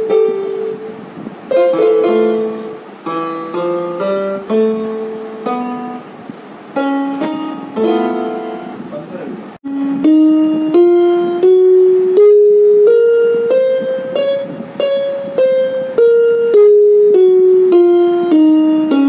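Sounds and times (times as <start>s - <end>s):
electronic keyboard slow tune: 0.0s - 9.0s, 9.6s - 19.0s.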